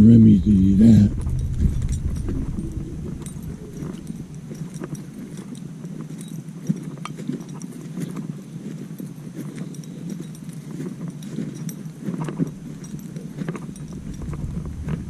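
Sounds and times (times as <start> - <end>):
footsteps walking: 1.2 - 15.0.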